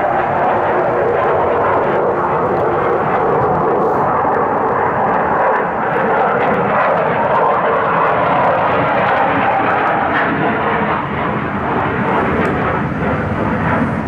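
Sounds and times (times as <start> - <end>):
aircraft flying over: 0.0 - 14.0.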